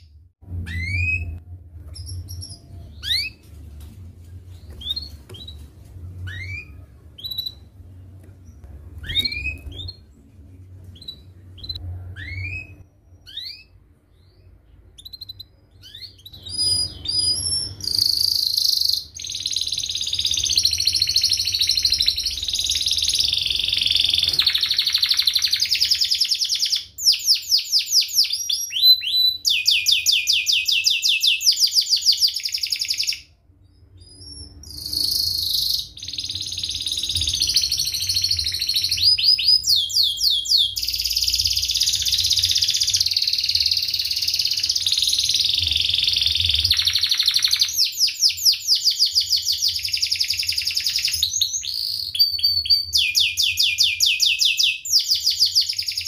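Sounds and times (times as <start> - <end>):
canary singing trills: 0.0 - 3.4, 4.5 - 10.1, 10.9 - 56.0.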